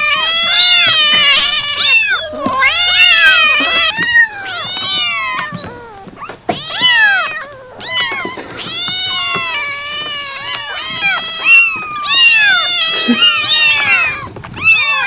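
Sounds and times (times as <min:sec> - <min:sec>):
cats meowing: 0:00.0 - 0:15.0.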